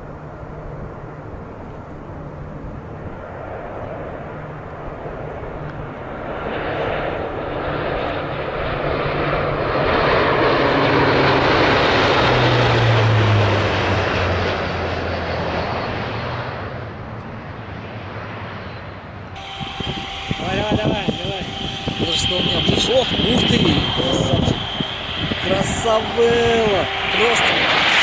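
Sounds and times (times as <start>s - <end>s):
airplane passing overhead: 0.0s - 28.0s.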